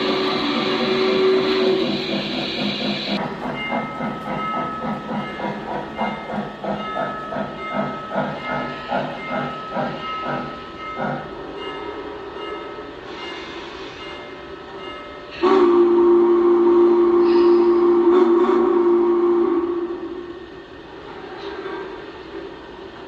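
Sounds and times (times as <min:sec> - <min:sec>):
steam hissing: 0:00.0 - 0:23.0
steam locomotive chuffing: 0:00.0 - 0:23.0.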